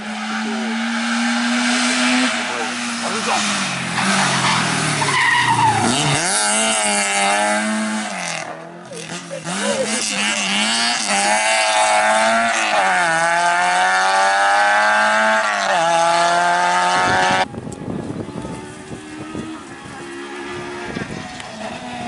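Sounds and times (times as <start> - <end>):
distant rally car engine: 0.0 - 22.0
rally car engine accelerating: 0.0 - 22.0.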